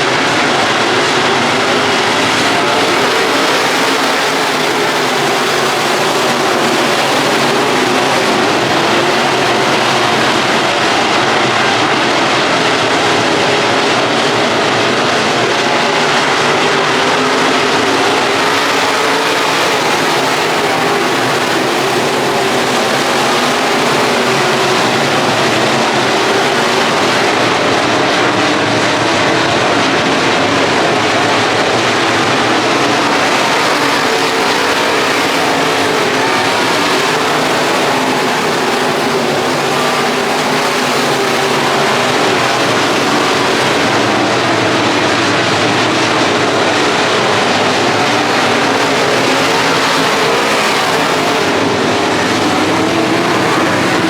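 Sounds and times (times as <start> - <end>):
race car engines running: 0.0 - 54.0.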